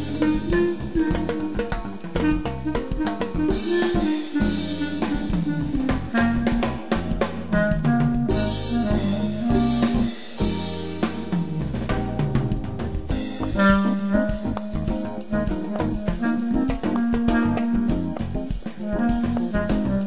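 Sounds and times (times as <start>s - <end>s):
bass: 0.0s - 20.0s
clarinet improvising jazz: 0.0s - 20.0s
drum kit: 0.0s - 20.0s.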